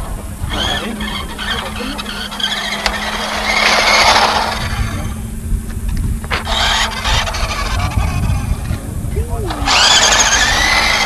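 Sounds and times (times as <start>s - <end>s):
model car motor whining: 0.0s - 11.0s
wind rumble on microphone: 0.0s - 11.0s.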